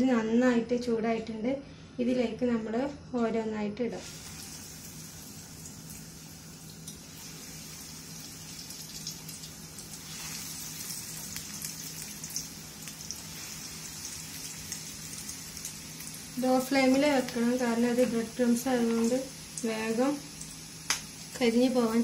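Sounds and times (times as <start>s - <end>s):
cutlets sizzling in hot oil: 4.0s - 22.0s.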